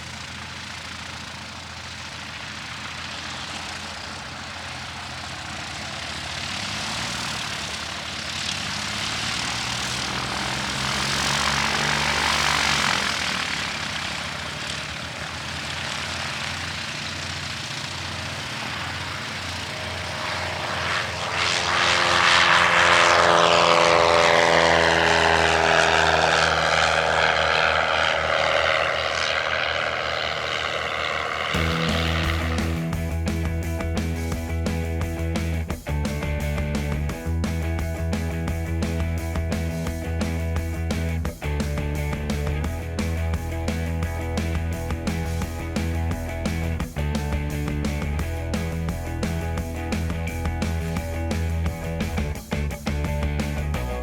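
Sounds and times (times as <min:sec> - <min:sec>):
propeller airplane engine passing: 0:00.0 - 0:54.0.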